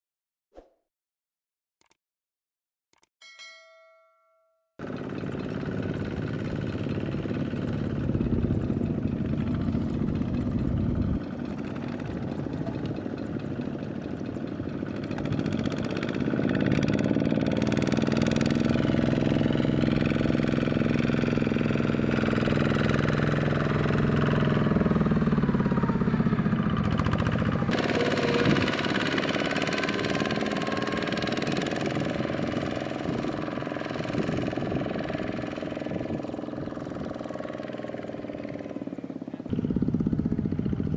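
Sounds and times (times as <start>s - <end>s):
power tiller engine running: 4.8s - 40.9s.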